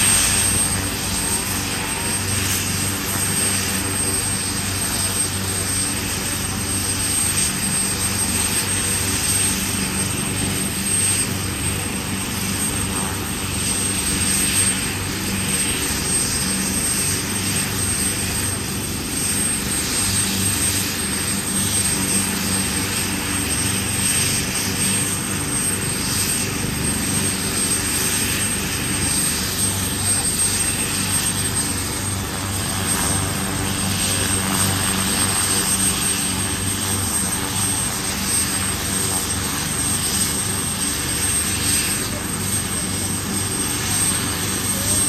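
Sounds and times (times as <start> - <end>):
helicopter running: 0.0 - 45.0.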